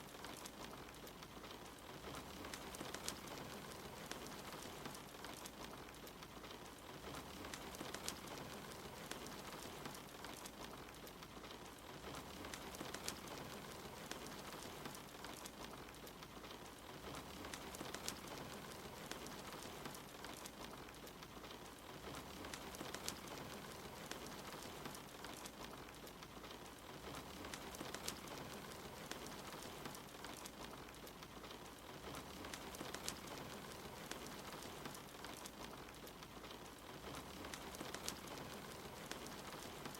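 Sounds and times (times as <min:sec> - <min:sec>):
soft steady rain: 0:00.0 - 0:39.9
wood fire crackling: 0:00.0 - 0:39.9.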